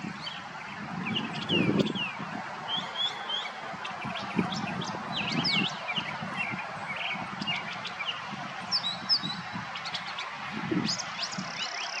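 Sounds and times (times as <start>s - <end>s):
bird singing chirps and whistles: 0.2s - 10.0s.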